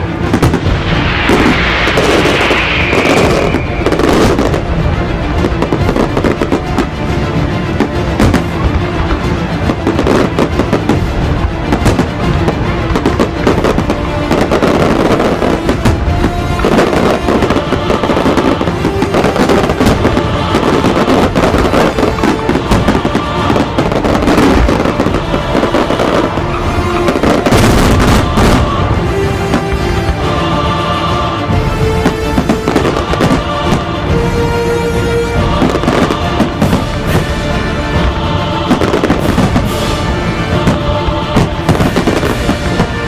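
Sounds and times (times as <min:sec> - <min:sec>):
fireworks going off: 0:00.0 - 0:34.6, 0:35.3 - 0:43.0
music playing: 0:00.0 - 0:43.0.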